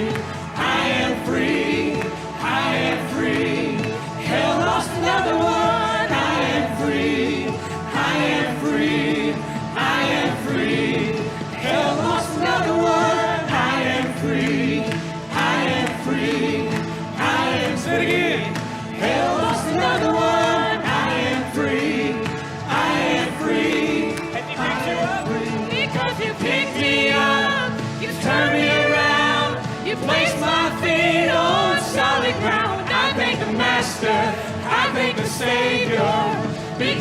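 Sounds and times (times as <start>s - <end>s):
choir singing gospel: 0.0s - 37.0s.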